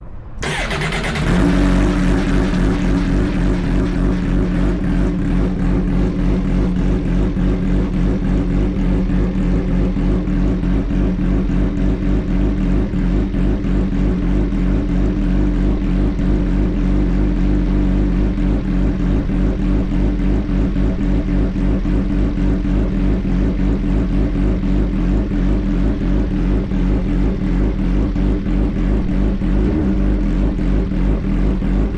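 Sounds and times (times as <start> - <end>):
motorcycle engine idling: 0.4 - 31.9.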